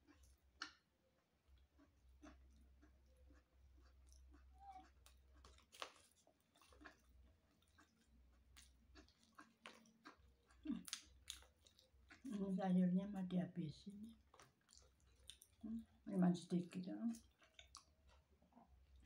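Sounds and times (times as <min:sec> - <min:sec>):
person chewing: 0:00.0 - 0:12.5, 0:14.0 - 0:16.0, 0:17.1 - 0:19.0.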